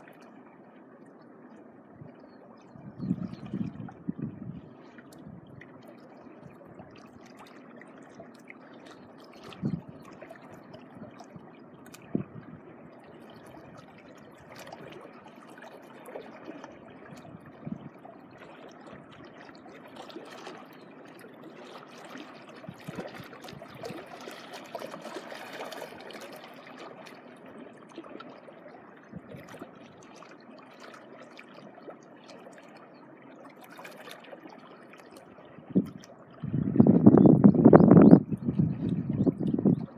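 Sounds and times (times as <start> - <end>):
sea water lapping at shore: 0.0 - 39.9.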